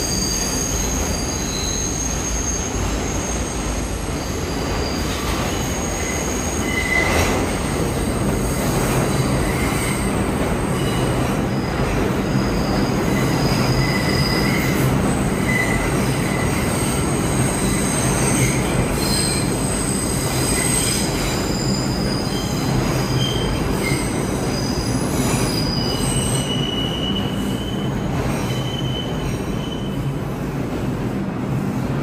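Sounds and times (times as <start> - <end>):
train wheels squealing: 0.0 - 30.2.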